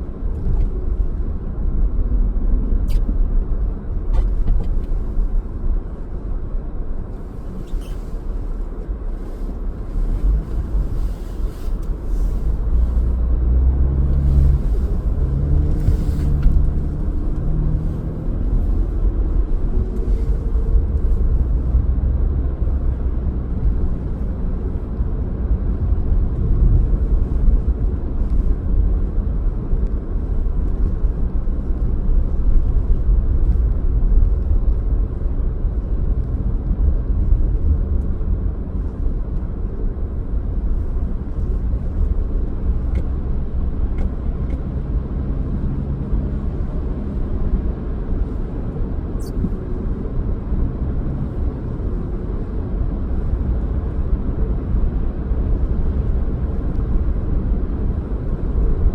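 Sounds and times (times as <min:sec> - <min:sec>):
car driving rumble: 0:00.0 - 0:58.9.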